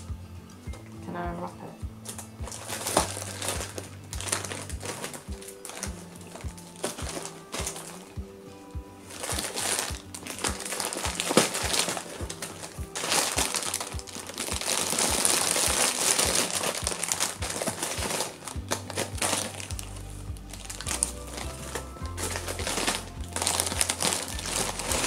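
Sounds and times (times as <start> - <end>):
music with steady beat: 0.0 - 25.0
cellophane crinkling: 2.0 - 8.2, 9.0 - 25.0.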